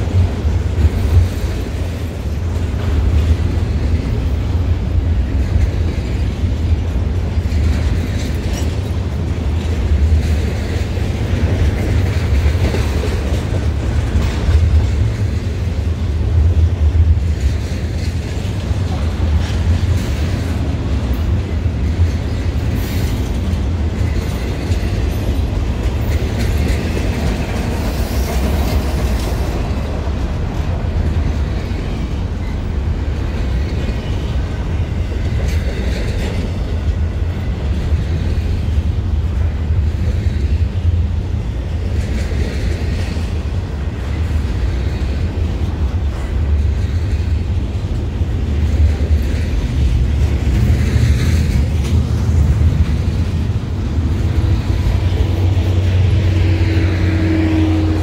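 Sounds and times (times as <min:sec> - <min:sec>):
freight train rumbling: 0:00.0 - 0:58.0
wheels clacking over rail joints: 0:00.0 - 0:58.0.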